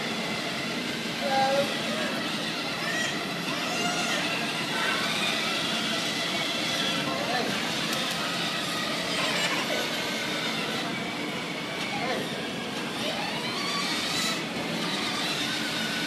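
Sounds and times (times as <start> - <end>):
hubbub of chatter: 0.0 - 16.0.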